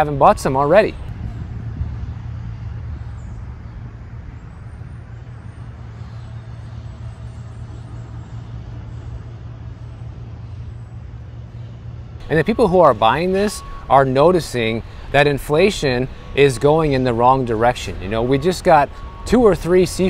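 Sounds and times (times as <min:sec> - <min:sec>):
road traffic rumble and hiss: 0:00.0 - 0:20.0.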